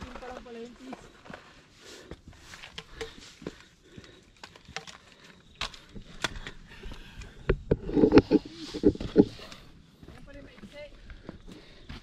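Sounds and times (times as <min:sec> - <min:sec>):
footsteps on dirt trail: 0:00.0 - 0:12.0.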